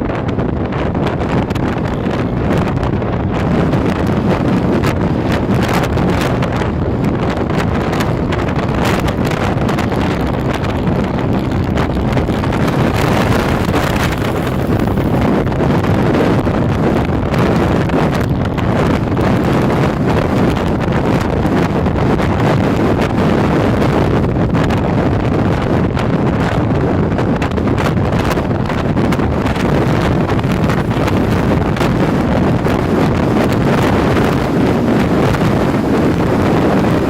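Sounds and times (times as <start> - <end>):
moving vehicle running: 0.0 - 37.0
wind buffeting microphone: 0.0 - 37.0.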